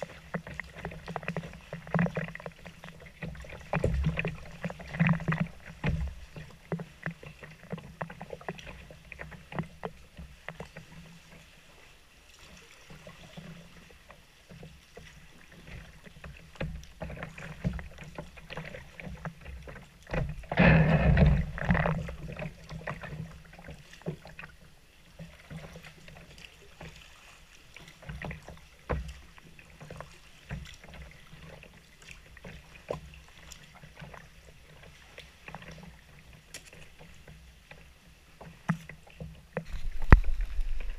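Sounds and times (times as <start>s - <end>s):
paddle splashes and drips: 0.0s - 40.9s
water lapping against plastic hull: 0.0s - 40.9s.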